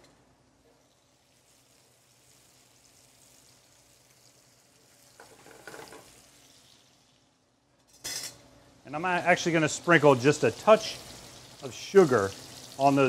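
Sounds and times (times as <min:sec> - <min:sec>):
bacon sizzling in a skillet: 0:00.8 - 0:07.4, 0:09.0 - 0:13.0.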